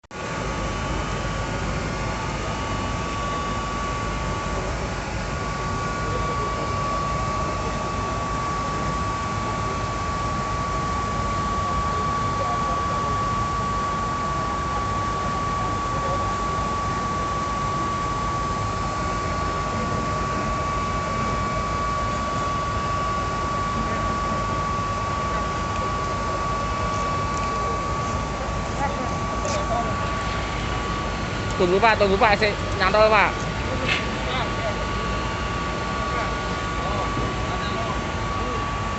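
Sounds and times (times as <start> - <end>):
high whine: 0.1 - 38.9
pump running: 0.2 - 38.9.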